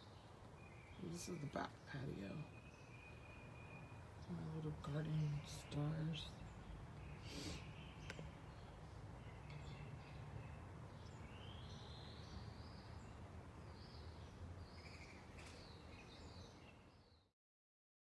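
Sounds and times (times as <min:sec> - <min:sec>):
faint birdsong: 0:00.0 - 0:17.4.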